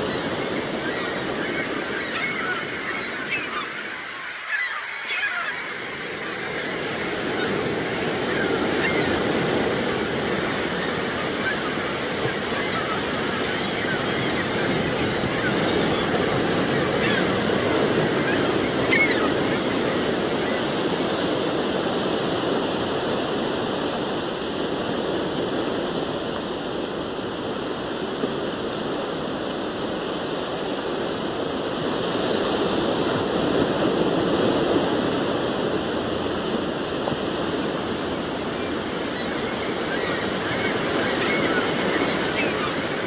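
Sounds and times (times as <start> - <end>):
waves breaking on beach: 0.0 - 43.0.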